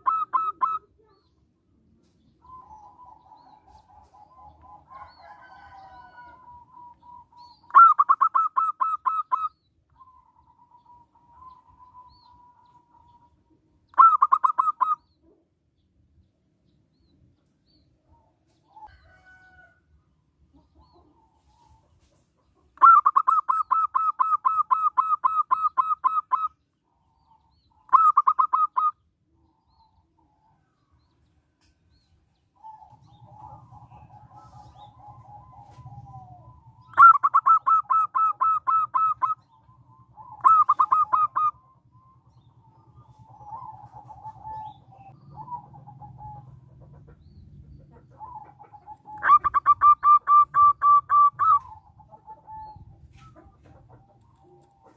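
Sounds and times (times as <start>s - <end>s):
dove cooing: 0.0s - 15.5s, 20.5s - 30.7s, 32.6s - 54.9s
softer lower bird calls: 0.0s - 15.9s, 20.5s - 54.9s.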